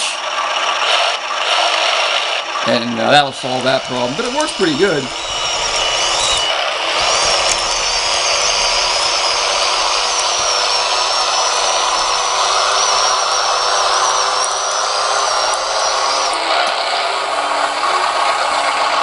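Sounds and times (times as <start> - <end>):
electric motors and gearboxes whirring: 0.0 - 19.0
high wavering whine: 2.1 - 19.0.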